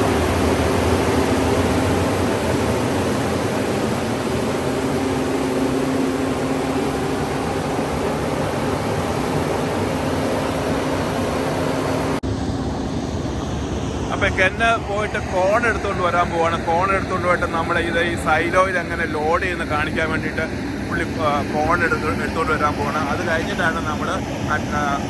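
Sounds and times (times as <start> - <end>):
grain dryer fan and burner rushing: 0.0 - 25.0.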